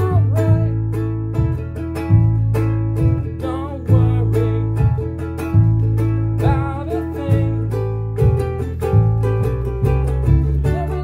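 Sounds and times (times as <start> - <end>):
low bass notes: 0.0 - 11.0
ukulele strumming: 0.0 - 11.0.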